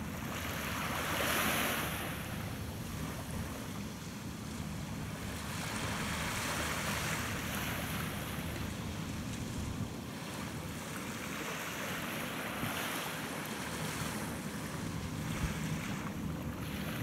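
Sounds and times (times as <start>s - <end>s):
distant boat engine drone: 0.0s - 17.0s
water washing along shore: 0.0s - 17.0s.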